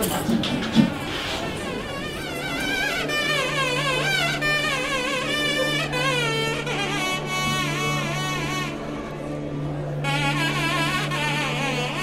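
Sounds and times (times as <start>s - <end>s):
ornamented sliding melody: 1.0s - 12.0s.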